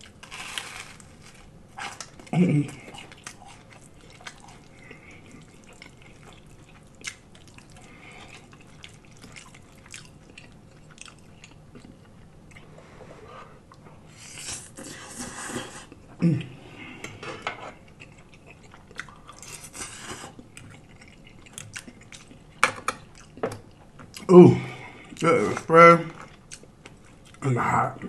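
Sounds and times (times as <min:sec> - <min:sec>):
soft chewing: 0:00.0 - 0:28.0.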